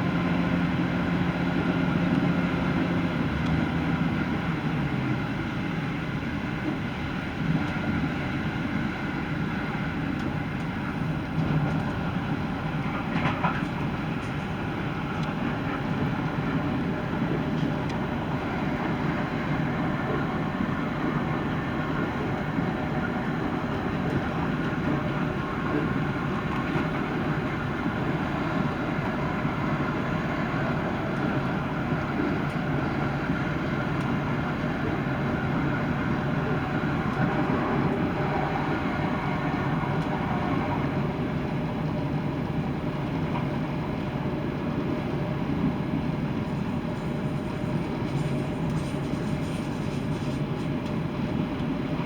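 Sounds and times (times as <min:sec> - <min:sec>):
train diesel engines howling: 0:00.0 - 0:52.0
train wheels on track: 0:00.0 - 0:52.0.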